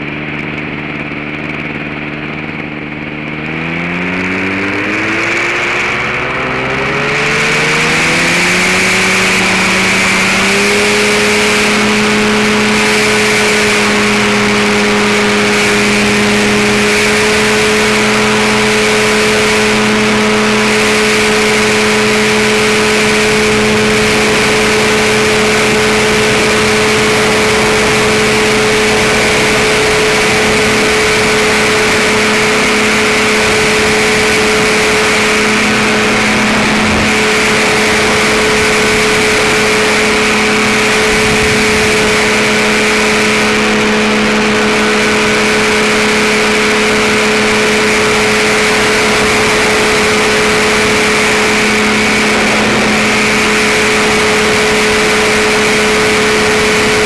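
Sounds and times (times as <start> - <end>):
engine and propeller drone: 0.0 - 57.0.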